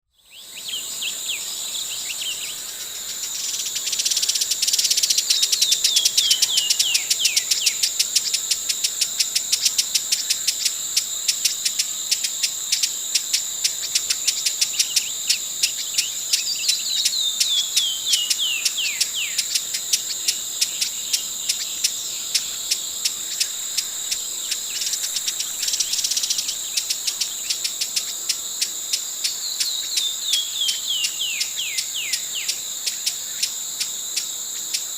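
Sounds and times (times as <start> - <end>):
pulsing insect chorus: 0.2 - 34.9.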